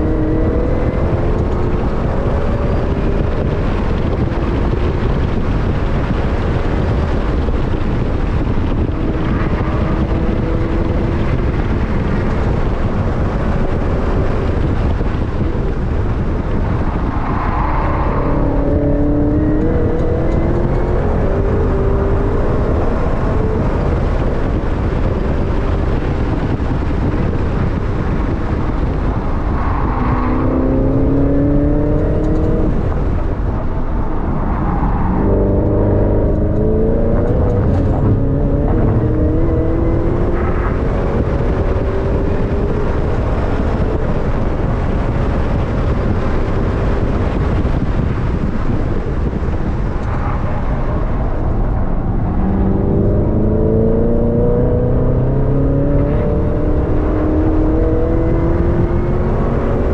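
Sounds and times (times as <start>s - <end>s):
car engine at full throttle: 0.0s - 59.9s
wind and tyre noise: 0.0s - 59.9s.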